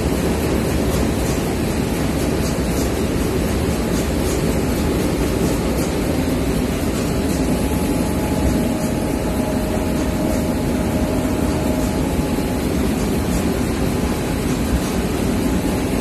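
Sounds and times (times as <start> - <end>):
sieving machine rumble: 0.0 - 16.0.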